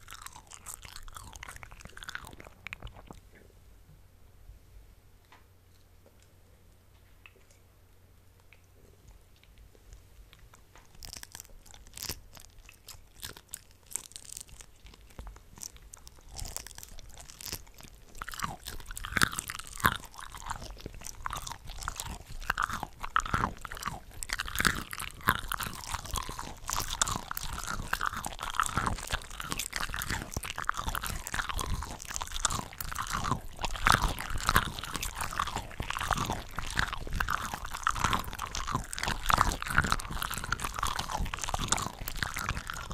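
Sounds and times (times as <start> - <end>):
chewing shrimp: 0.0 - 3.5, 5.7 - 7.7, 8.4 - 42.9.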